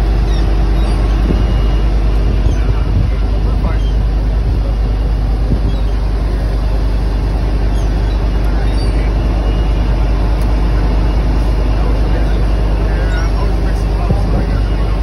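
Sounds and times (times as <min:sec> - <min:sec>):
boat engine droning: 0:00.0 - 0:15.0
rushing water noise: 0:00.0 - 0:15.0.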